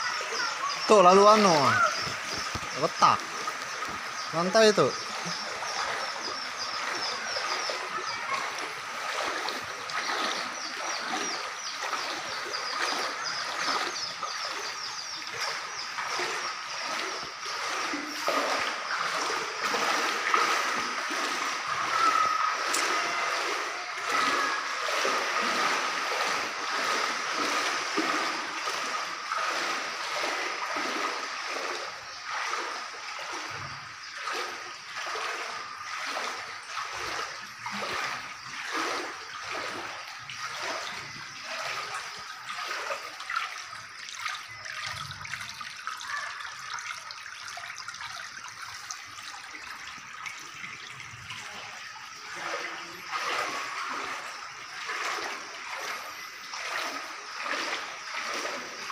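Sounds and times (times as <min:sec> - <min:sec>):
wading through water splashing: 0:00.0 - 0:58.9.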